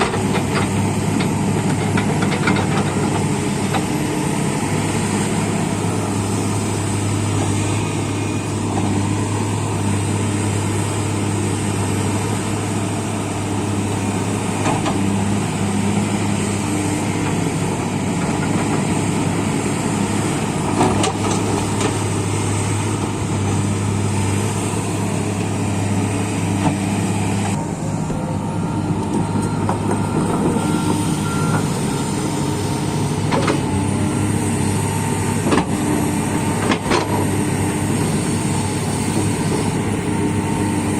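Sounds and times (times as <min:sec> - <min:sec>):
diesel machinery engine drone: 0:00.0 - 0:40.9.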